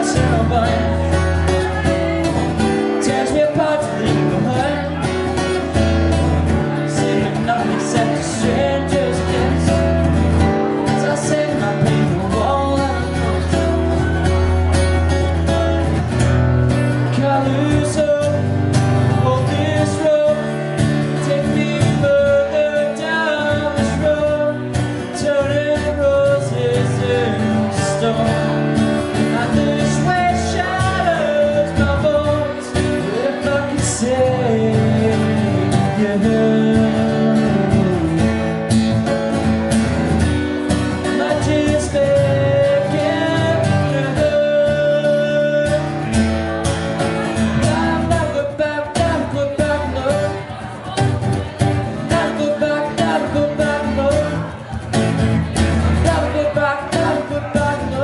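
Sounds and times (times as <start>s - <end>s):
person singing: 0.0s - 15.2s, 16.8s - 38.6s, 40.8s - 58.0s
strummed acoustic guitar: 0.0s - 58.0s.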